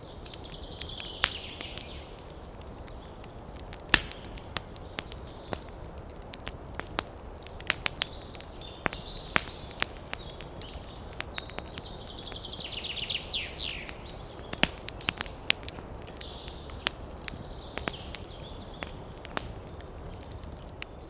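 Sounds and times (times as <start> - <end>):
campfire crackling and popping: 0.0 - 21.0
small birds chirping: 0.0 - 21.0.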